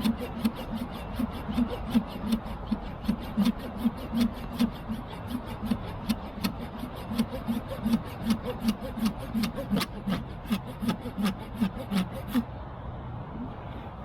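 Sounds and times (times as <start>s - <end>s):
pull saw cutting wood: 0.0s - 12.5s.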